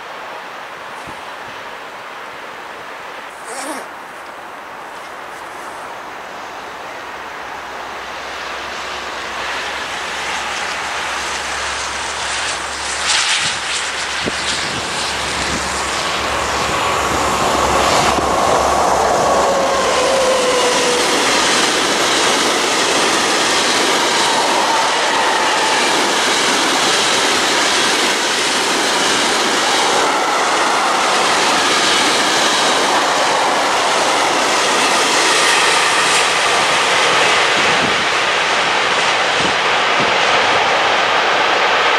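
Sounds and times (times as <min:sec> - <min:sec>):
diesel locomotive passing: 0:00.0 - 0:41.9.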